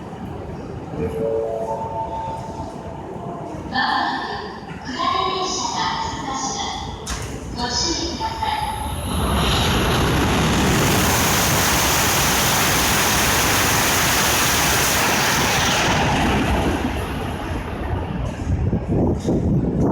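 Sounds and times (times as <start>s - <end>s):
high-speed train passing: 0.0s - 19.9s.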